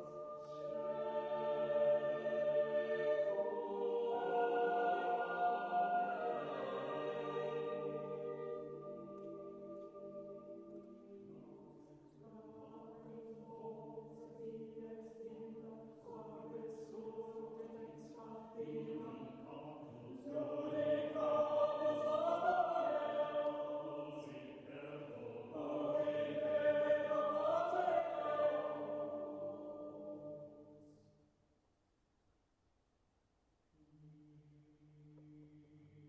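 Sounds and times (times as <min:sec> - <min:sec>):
choral chanting over a drone: 0:00.0 - 0:31.1.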